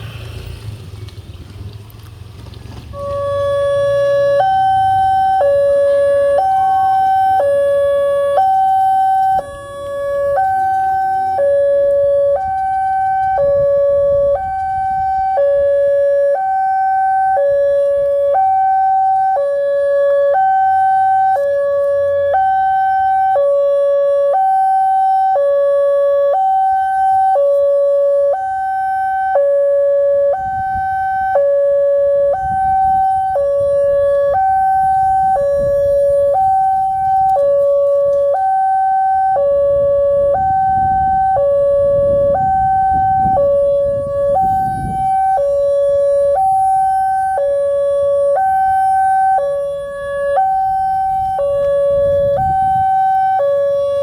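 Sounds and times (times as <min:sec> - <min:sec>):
level crossing two-tone siren: 0:02.9 - 0:54.0.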